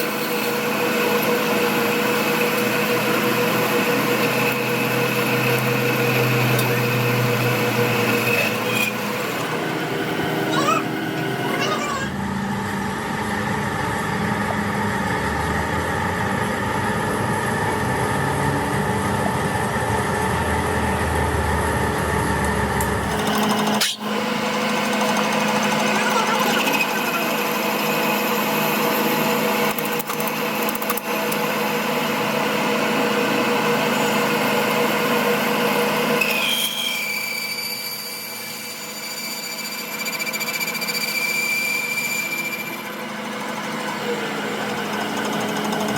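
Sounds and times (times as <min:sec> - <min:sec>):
workshop machinery hum and whine: 0:00.0 - 0:45.9.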